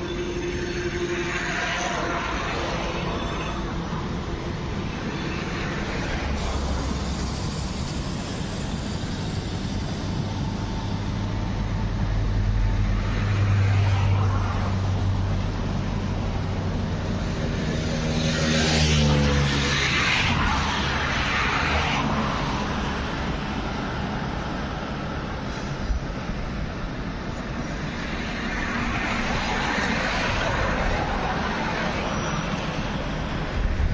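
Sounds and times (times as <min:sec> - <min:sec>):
road traffic going by: 0:00.0 - 0:33.9.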